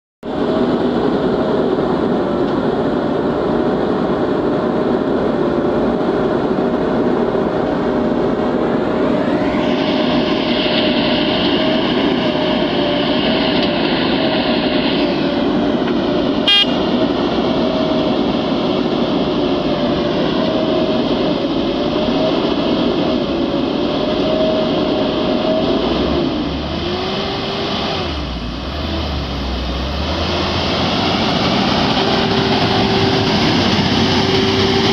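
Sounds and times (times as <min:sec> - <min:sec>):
diesel engine revving: 0:00.3 - 0:34.9.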